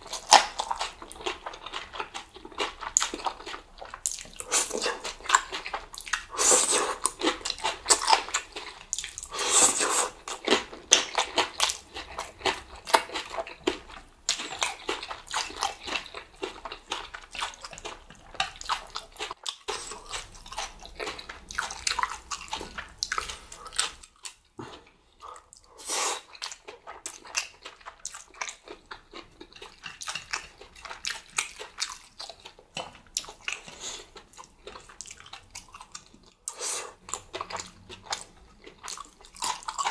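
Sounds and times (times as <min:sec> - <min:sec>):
wet slurping and chewing: 0:00.0 - 0:39.9.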